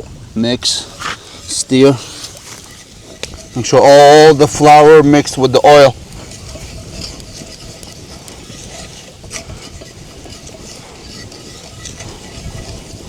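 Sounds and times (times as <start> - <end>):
low steady sizzle: 0.0 - 13.0
spoon scraping a pan: 0.6 - 13.0.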